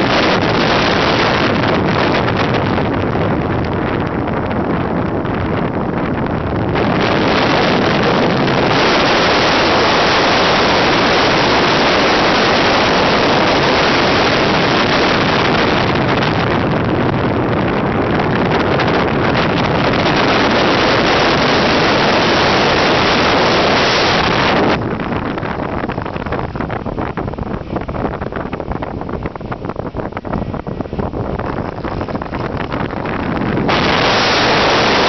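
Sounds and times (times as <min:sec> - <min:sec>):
wind noise over camera: 0:00.0 - 0:35.0.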